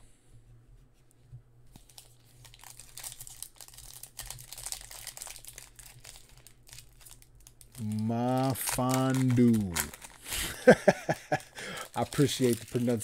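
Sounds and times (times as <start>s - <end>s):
plastic wrapper crinkling and tearing: 1.7s - 13.0s.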